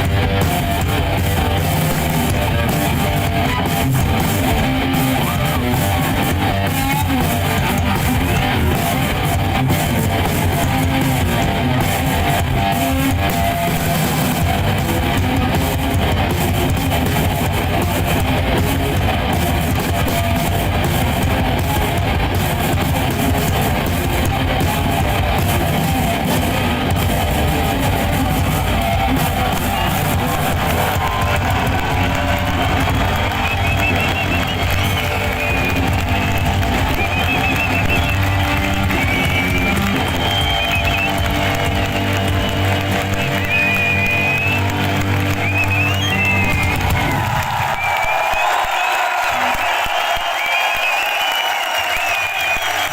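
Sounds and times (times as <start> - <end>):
electric guitar strumming: 0.0 - 47.1
rock band playing live: 0.0 - 52.9.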